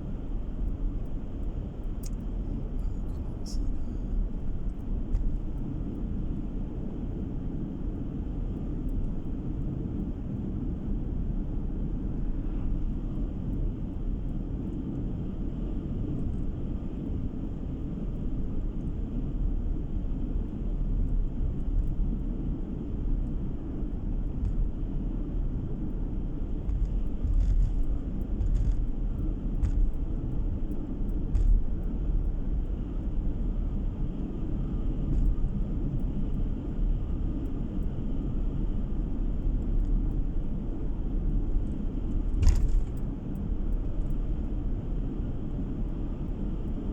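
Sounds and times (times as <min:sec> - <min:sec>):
car cabin road rumble: 0:00.0 - 0:46.9.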